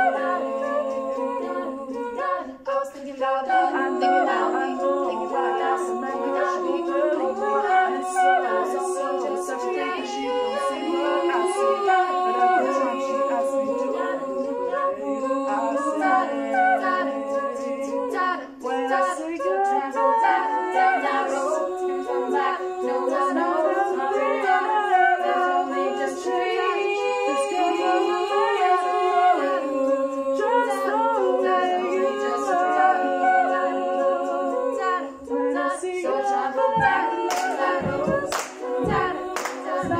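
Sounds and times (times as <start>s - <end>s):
women singing in harmony: 0.0s - 39.9s.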